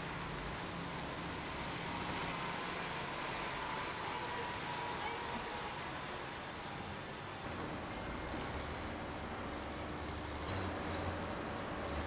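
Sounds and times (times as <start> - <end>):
heavy vehicle engine hum: 0.0 - 12.0.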